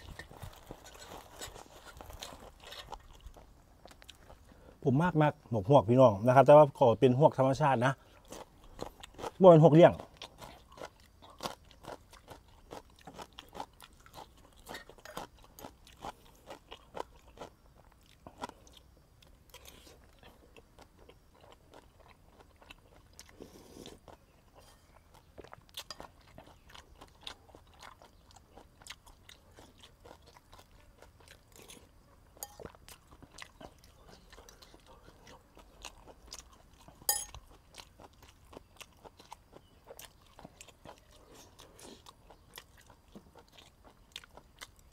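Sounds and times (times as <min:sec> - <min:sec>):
person chewing and crunching: 0:00.0 - 0:05.2, 0:06.1 - 0:44.9.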